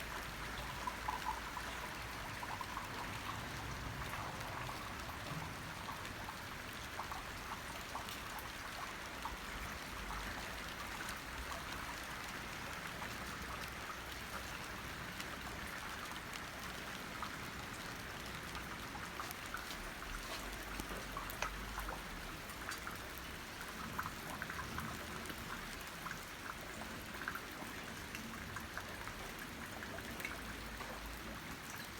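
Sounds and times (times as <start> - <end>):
rain drops striking: 0.0 - 31.9
water trickling: 0.0 - 31.9.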